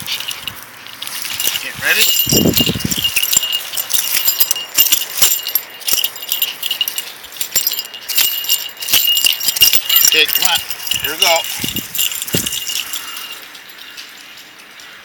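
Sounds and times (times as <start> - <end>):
dog tags jingling: 0.0 - 15.0.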